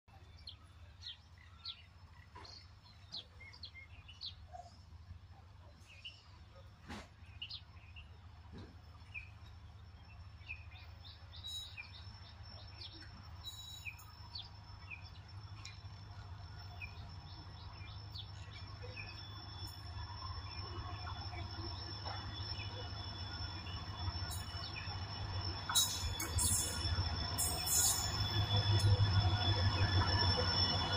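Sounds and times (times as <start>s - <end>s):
diesel locomotive rumble: 0.1s - 30.9s.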